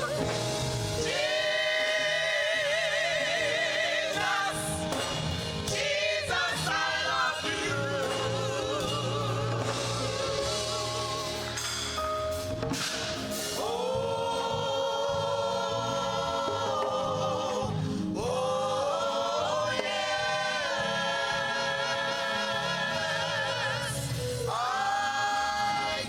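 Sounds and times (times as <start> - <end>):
instrumental accompaniment: 0.0 - 25.9
gospel choir singing: 0.0 - 26.0.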